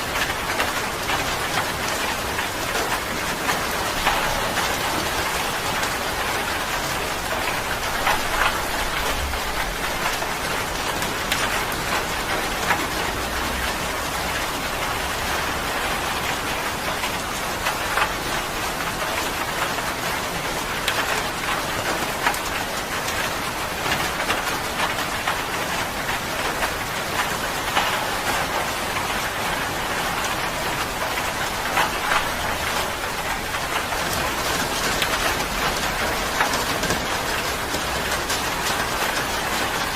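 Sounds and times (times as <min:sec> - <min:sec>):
raindrop ticks: 0:00.0 - 0:39.9
steady rain hiss: 0:00.0 - 0:39.9.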